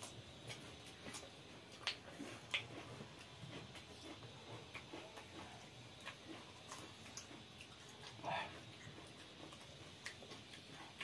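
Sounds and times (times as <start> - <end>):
people chewing and lip smacking: 0.0 - 11.0.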